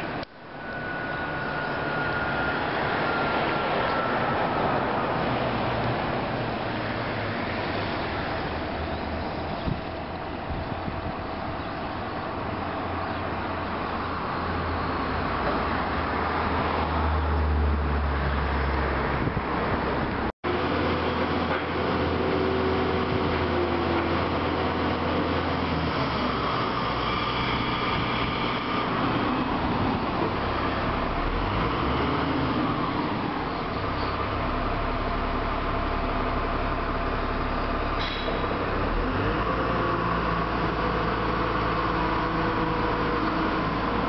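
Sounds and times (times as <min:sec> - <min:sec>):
crane truck engine drone: 0:00.0 - 0:44.0
street traffic passing: 0:00.0 - 0:44.0.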